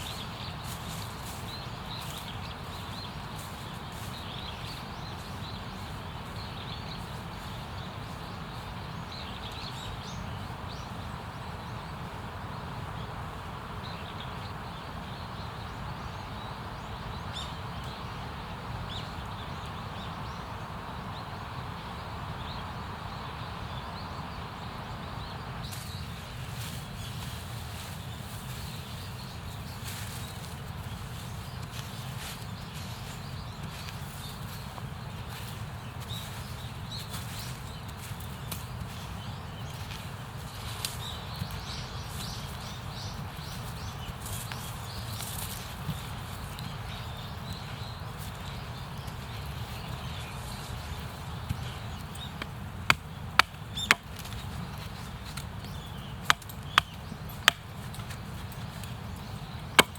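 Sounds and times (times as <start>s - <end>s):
steady outdoor noise: 0.0s - 59.9s.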